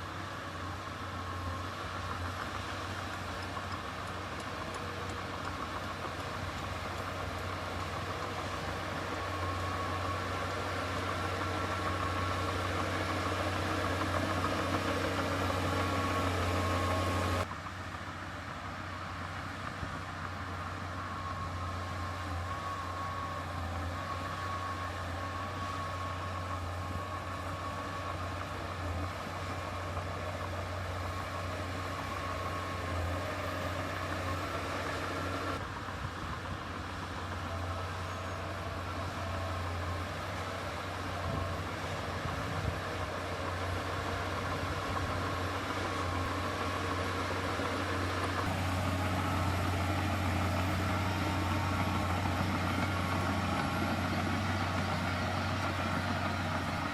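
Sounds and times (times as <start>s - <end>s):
heavy diesel machinery droning: 0.0s - 56.9s.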